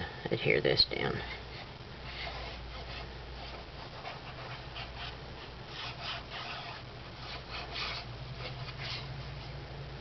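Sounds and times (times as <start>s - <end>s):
hands rubbing paper: 1.3s - 9.6s.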